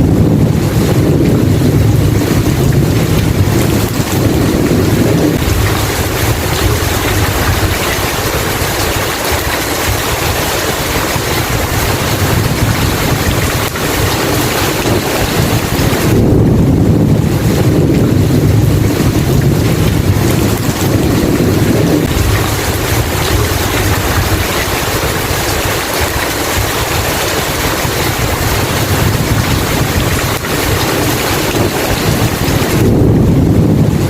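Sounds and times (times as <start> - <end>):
heavy rain falling: 0.0 - 34.0
rumble of thunder: 0.0 - 34.0.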